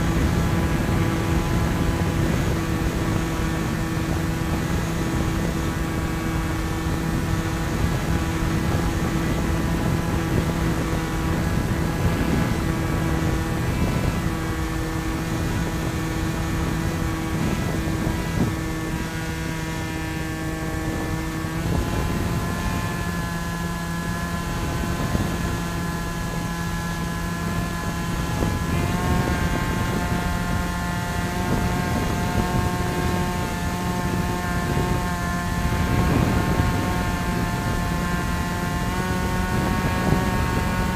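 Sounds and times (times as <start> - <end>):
electric motor and propeller whine: 0.0 - 40.9
rushing wind: 0.0 - 40.9.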